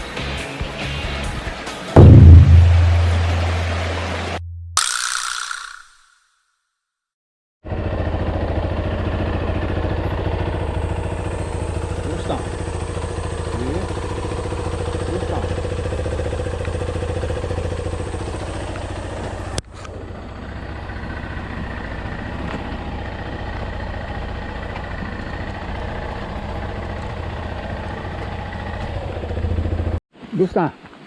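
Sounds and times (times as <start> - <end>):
motorcycle engine running at low revs: 2.0 - 4.8, 7.6 - 30.0.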